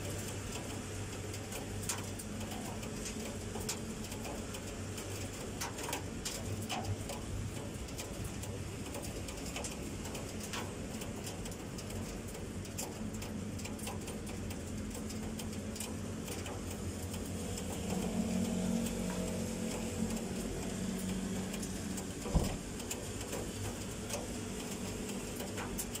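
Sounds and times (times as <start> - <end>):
raindrops ticking and tapping: 0.0 - 26.0.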